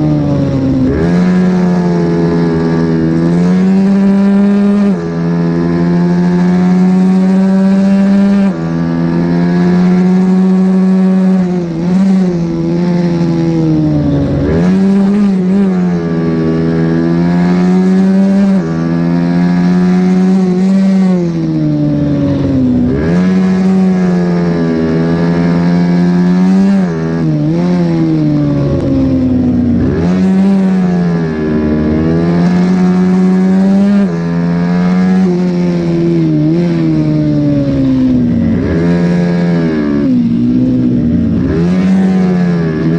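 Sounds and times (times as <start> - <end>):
minibike engine revving: 0.0 - 42.9.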